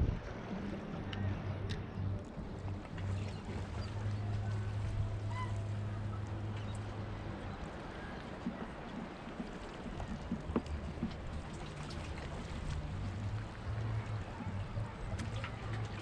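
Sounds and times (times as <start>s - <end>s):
boat engine humming: 0.0s - 16.0s
water noise: 0.0s - 16.0s
wind: 0.0s - 16.0s.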